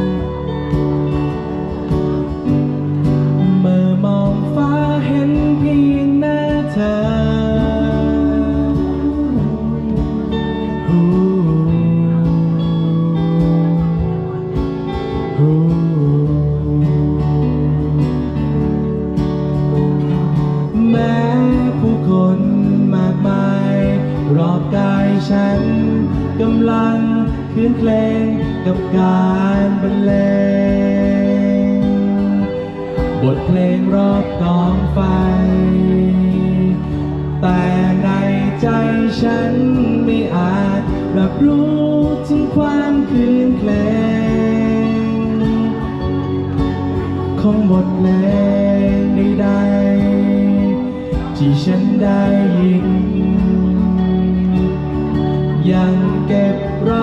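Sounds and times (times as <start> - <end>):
folk band with acoustic guitar: 0.0 - 57.0.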